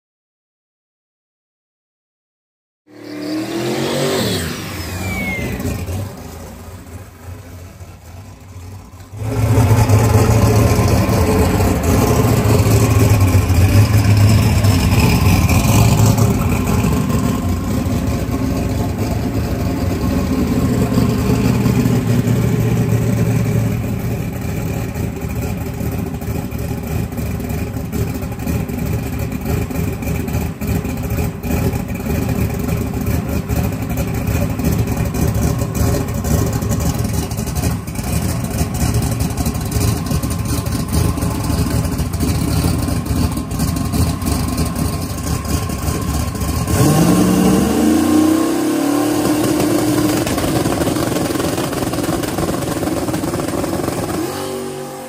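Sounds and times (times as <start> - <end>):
race car engine idling and revving: 2.9 - 55.0.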